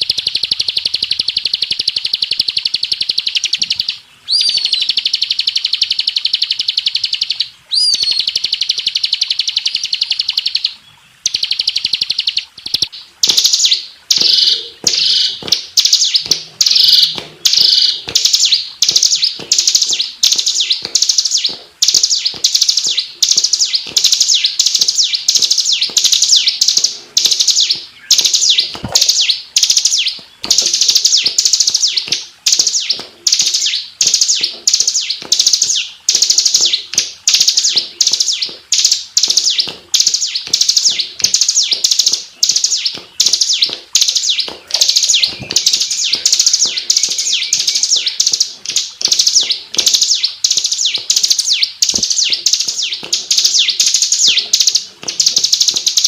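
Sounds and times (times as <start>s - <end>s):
bird trilling song: 0.0s - 56.0s.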